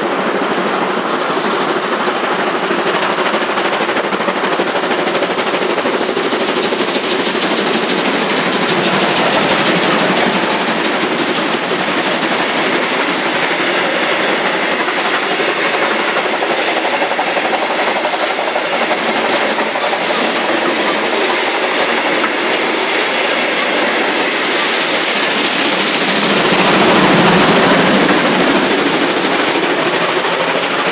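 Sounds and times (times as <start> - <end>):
steam locomotive exhaust beats: 0.0 - 30.9
wagons clattering on rails: 2.0 - 30.9.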